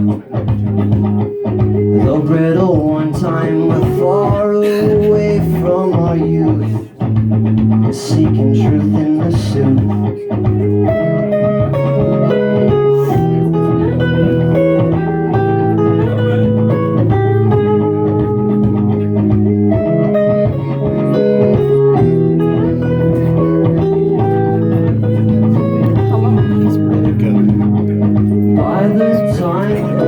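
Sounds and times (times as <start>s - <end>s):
electric guitar melody: 0.0s - 30.0s
low bass line: 0.0s - 30.0s.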